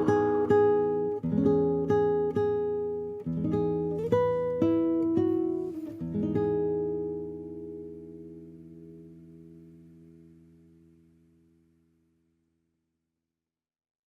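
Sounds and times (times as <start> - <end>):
acoustic guitar picked chords: 0.0 - 12.3.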